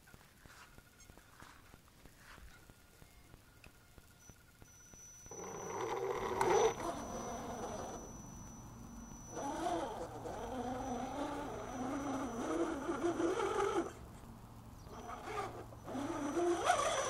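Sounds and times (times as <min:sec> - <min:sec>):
rc car motor whining: 0:02.6 - 0:17.0.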